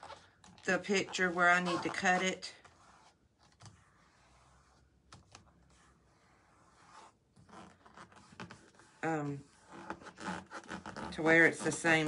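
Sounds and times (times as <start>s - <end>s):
paper rustling and creasing: 0.0s - 12.0s.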